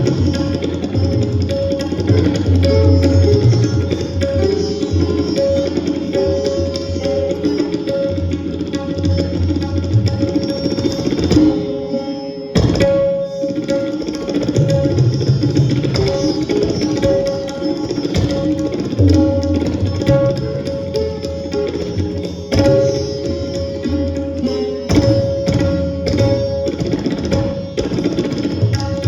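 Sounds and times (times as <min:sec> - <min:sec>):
plucked strings: 0:00.0 - 0:29.0
tabla drumming: 0:00.0 - 0:29.0.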